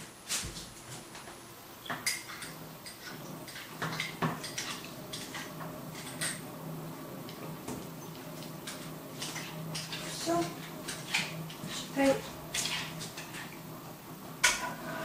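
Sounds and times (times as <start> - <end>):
water cooler hum: 0.0 - 15.0.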